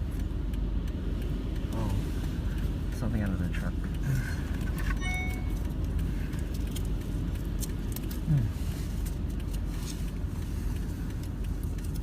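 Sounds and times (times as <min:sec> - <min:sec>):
car road noise rumble: 0:00.0 - 0:12.0
small rattles and clicks: 0:00.0 - 0:12.0.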